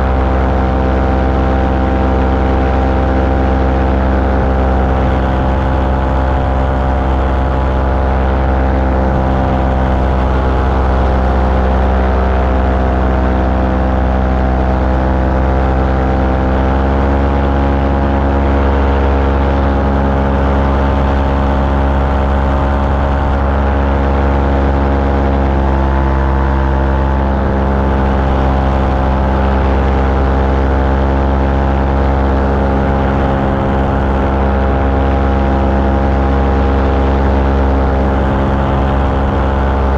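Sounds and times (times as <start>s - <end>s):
propeller aircraft engine in flight: 0.0s - 39.9s.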